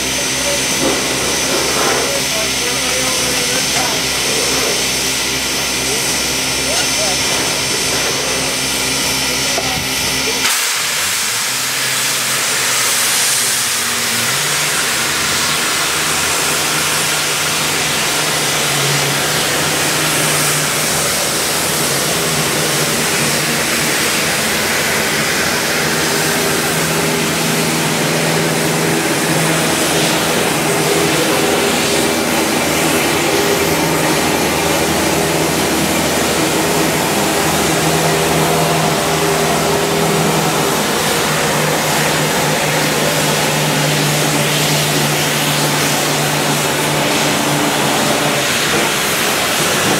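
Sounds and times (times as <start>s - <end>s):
steam hissing: 0.0s - 49.9s.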